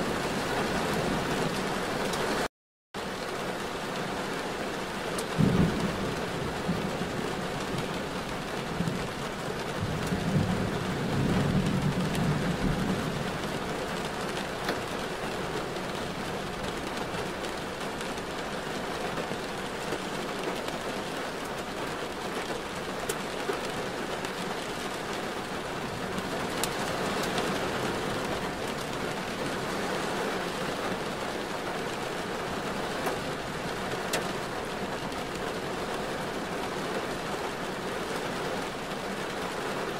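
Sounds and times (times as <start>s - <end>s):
rain falling on a car: 0.0s - 39.9s
sharp ticks of raindrops: 0.9s - 39.9s.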